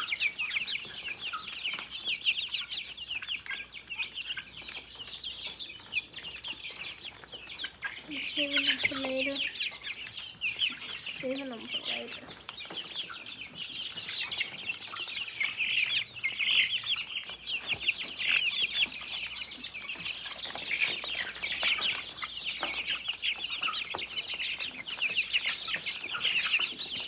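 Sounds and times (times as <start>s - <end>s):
chickens cheeping: 0.0s - 27.0s.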